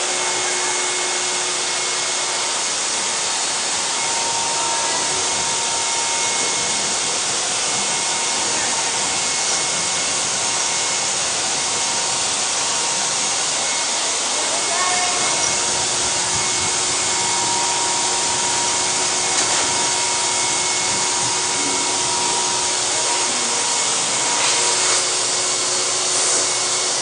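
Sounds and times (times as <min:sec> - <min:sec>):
hair dryer blowing: 0:00.0 - 0:27.0.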